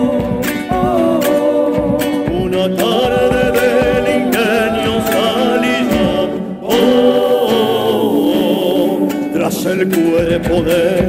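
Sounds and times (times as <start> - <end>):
drum beat: 0.0 - 11.0
men singing in harmony: 0.0 - 11.0.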